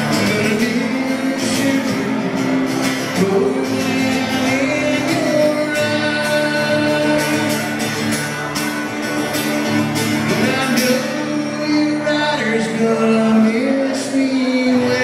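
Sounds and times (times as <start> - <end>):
man singing: 0.0 - 8.5, 10.0 - 15.0
acoustic guitar strumming: 0.0 - 15.0.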